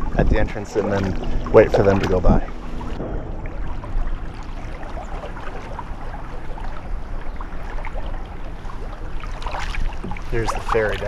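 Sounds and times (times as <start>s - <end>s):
low rumble: 0.0s - 11.0s
paddle dipping and splashing: 0.0s - 11.0s
water lapping along hull: 0.0s - 11.0s.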